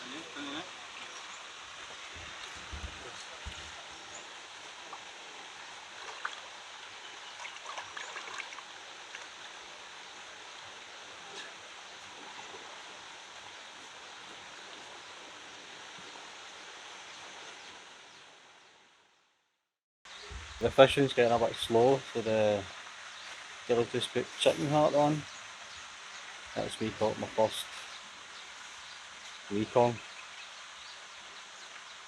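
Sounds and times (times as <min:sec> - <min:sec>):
outdoor background hiss: 0:00.0 - 0:32.0.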